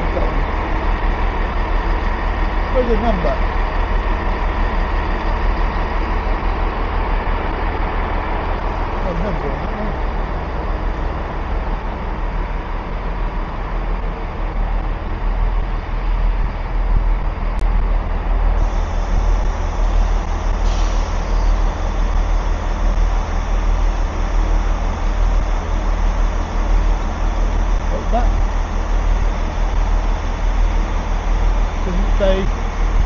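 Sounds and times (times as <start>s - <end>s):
train engine rumbling: 0.0s - 33.0s.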